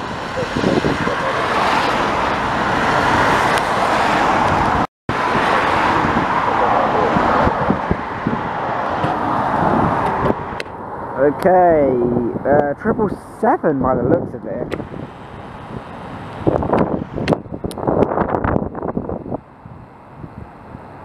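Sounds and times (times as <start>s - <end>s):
airliner jet roar: 0.0s - 19.4s
wind buffeting microphone: 0.0s - 21.0s.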